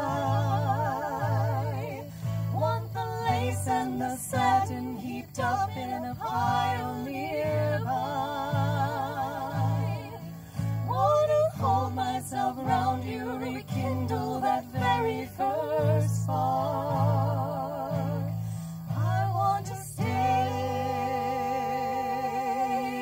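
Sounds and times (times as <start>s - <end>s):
strummed acoustic guitars: 0.0s - 23.0s
women singing in harmony: 0.0s - 23.0s.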